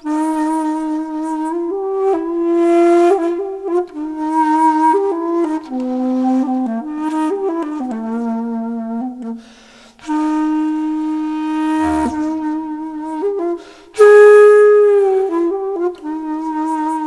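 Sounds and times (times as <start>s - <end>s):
solo flute melody: 0.0s - 9.3s, 10.1s - 17.0s.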